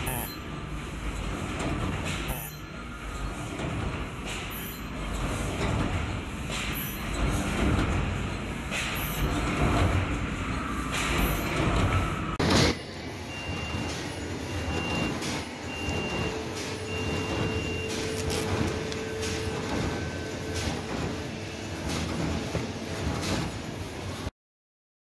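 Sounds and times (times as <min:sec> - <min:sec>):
sharp machine clack: 0:00.0 - 0:00.7, 0:01.4 - 0:10.1, 0:10.9 - 0:24.3
bag-making machine running: 0:00.0 - 0:24.3
steady hum: 0:00.0 - 0:24.3.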